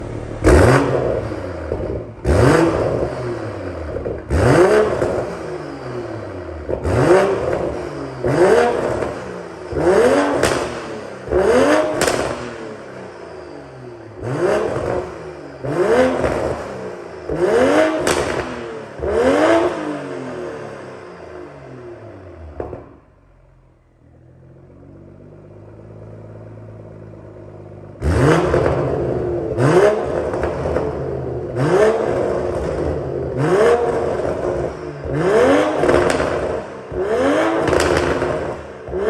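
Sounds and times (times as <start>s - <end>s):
exhaust cracks: 0.0s - 20.7s, 25.0s - 39.0s
car engine revving: 0.0s - 39.0s.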